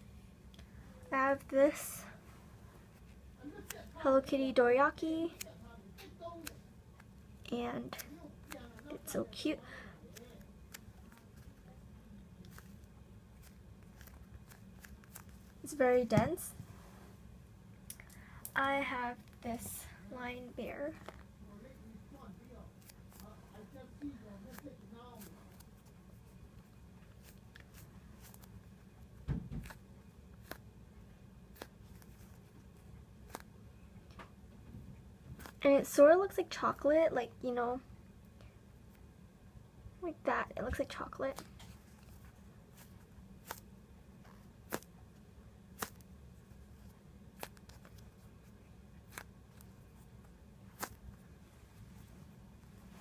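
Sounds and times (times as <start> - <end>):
low room hum: 0.0 - 53.0.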